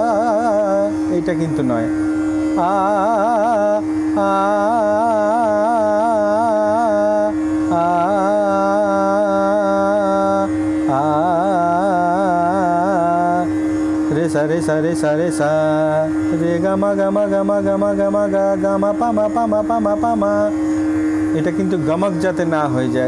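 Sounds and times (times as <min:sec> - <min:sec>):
man singing on an open vowel: 0:00.0 - 0:01.1, 0:02.5 - 0:23.0
steady drone note: 0:00.0 - 0:23.0.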